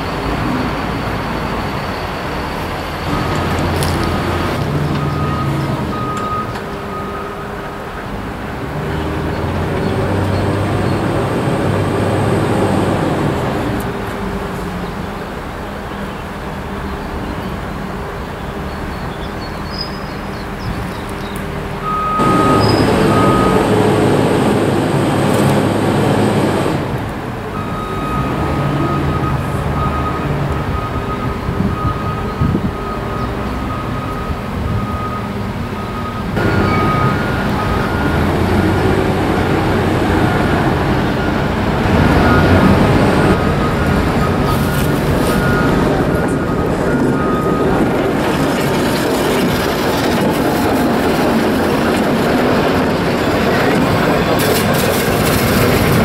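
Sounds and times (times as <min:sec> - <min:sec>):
locomotive diesel engine running: 0:00.0 - 0:56.0.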